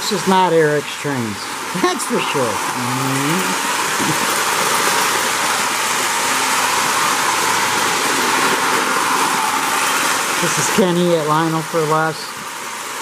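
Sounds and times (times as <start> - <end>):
model train rushing on track: 0.0 - 2.8, 3.6 - 13.0.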